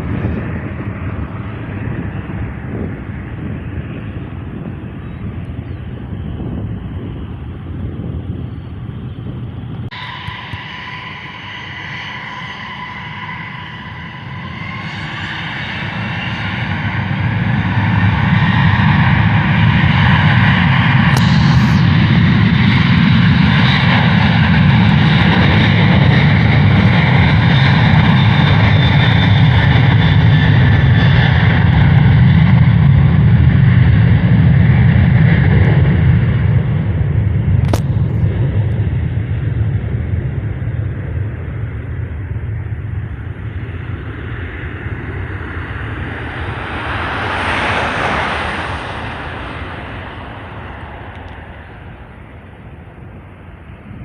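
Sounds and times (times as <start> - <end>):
airliner engines rumbling: 0.0 - 54.0
engine whine: 0.0 - 54.0.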